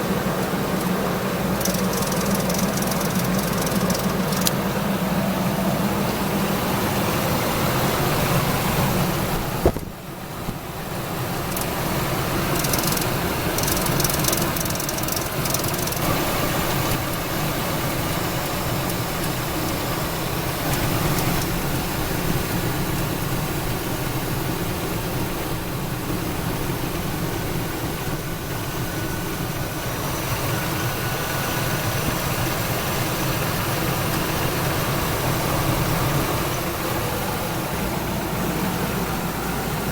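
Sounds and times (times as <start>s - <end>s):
engine idling: 0.0s - 39.9s
ticking engine noise: 0.0s - 39.9s.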